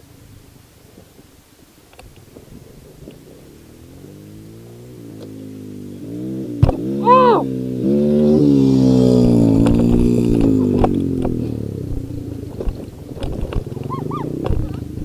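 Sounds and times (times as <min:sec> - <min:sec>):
dirt bike engine: 0:02.2 - 0:15.0.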